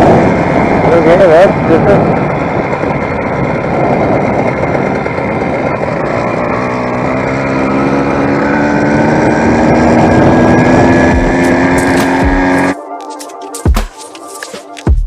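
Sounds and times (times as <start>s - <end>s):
two-stroke engine running: 0.0s - 12.8s.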